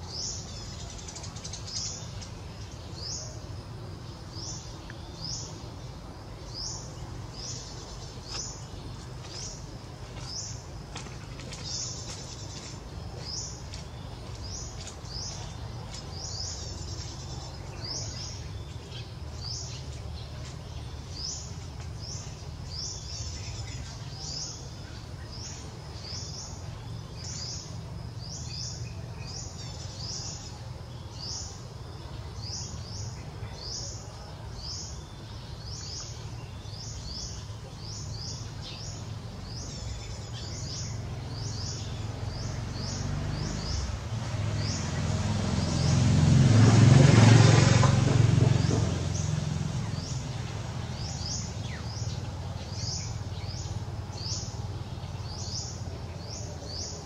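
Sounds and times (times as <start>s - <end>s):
bird chirping: 0.0s - 46.2s, 48.3s - 57.0s
low outdoor rumble: 0.0s - 57.0s.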